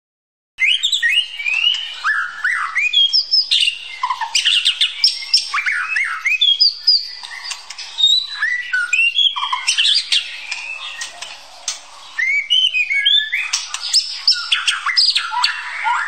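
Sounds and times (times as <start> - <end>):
bird singing varied whistles: 0.6 - 16.0.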